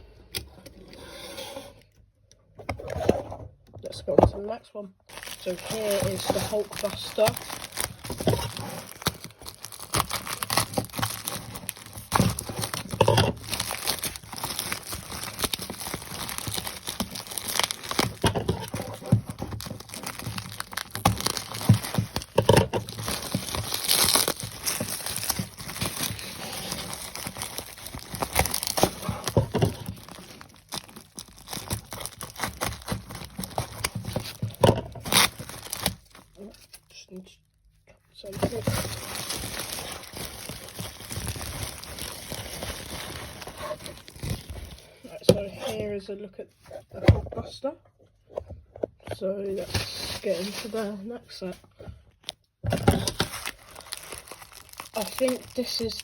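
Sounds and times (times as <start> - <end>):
packing wrapping crinkling and tearing: 5.0 - 37.2, 38.2 - 45.8, 49.5 - 51.2, 52.2 - 56.0.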